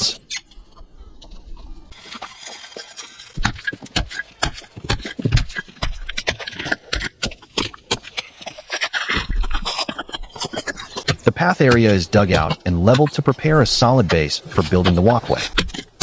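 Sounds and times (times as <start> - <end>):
tool scraping: 0.0 - 16.0.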